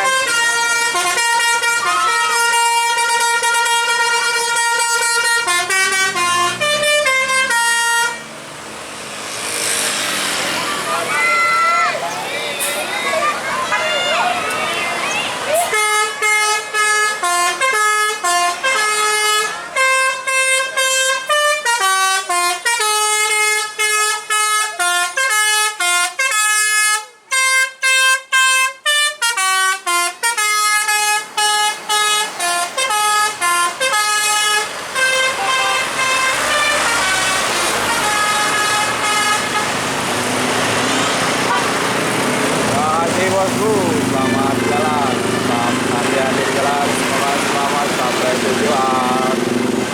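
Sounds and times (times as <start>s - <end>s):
bus musical horn melody: 0.0s - 8.4s, 12.4s - 49.9s
engine and road noise: 0.0s - 49.9s.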